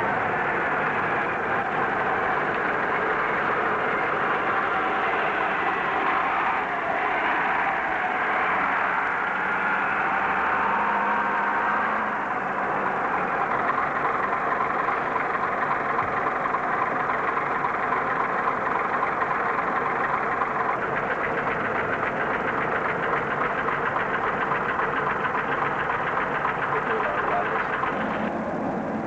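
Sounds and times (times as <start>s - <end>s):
diesel bus engine idling: 0.0s - 29.0s.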